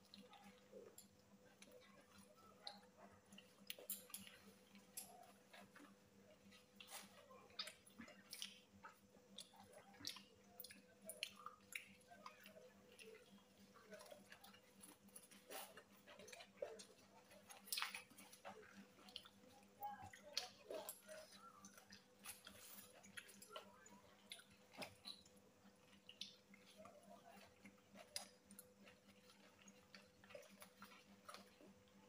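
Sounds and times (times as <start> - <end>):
chewing and mouth smacks: 0.0 - 32.0
faint steady hum: 0.0 - 32.0.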